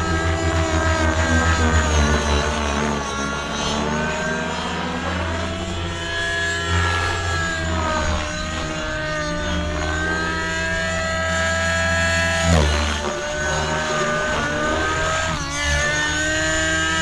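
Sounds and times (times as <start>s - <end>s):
model helicopter engine: 0.0s - 17.0s
rotor noise: 0.0s - 17.0s.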